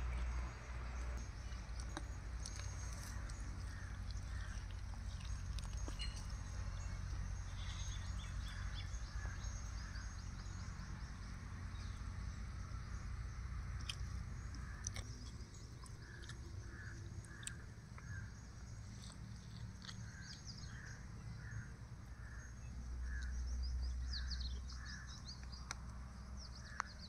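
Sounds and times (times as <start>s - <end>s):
birds calling: 0.0s - 12.1s, 13.7s - 25.8s
steady low rumble: 0.0s - 25.6s
birds twittering: 0.0s - 27.0s.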